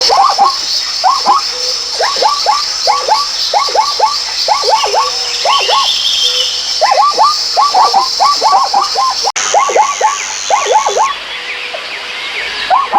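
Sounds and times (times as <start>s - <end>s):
chorus of swooping animal calls: 0.0s - 12.9s
steady high-pitched hiss: 0.0s - 12.9s.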